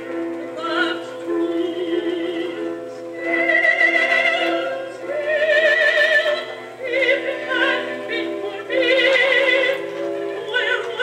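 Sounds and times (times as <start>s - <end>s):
musical accompaniment: 0.0s - 11.0s
operatic singing on record: 0.5s - 11.0s.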